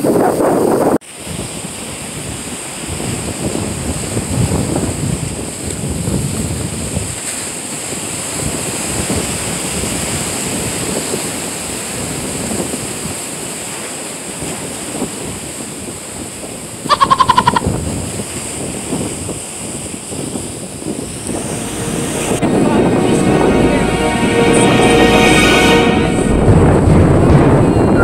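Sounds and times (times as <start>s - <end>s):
wind buffeting microphone: 0.0s - 23.1s, 26.1s - 28.0s.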